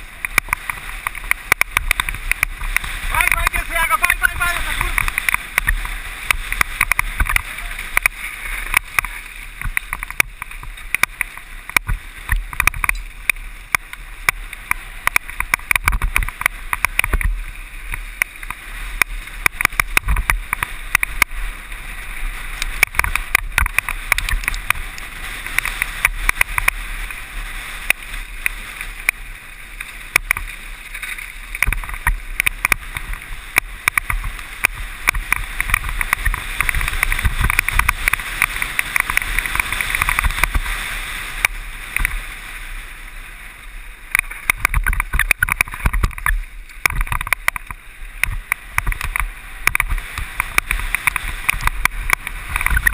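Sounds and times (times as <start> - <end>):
mountain bike rattling: 0.0 - 42.4, 43.9 - 52.9
wind on microphone: 0.0 - 52.9.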